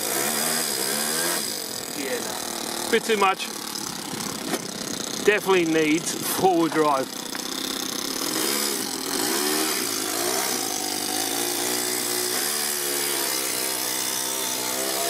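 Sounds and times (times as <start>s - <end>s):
model engine revving: 0.0s - 15.0s.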